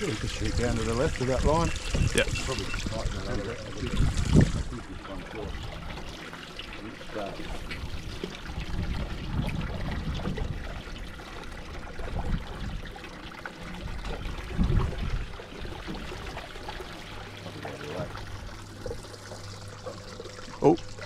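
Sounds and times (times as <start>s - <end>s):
water lapping against boat hull: 0.0s - 21.0s.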